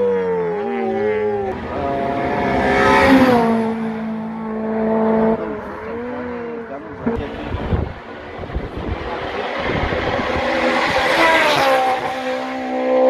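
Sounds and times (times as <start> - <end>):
rally car engine passing: 0.0 - 13.0.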